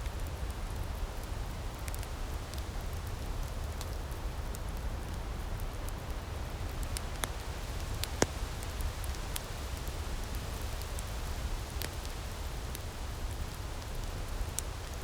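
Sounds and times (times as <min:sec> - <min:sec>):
firepit crackling and popping: 0:00.0 - 0:15.0.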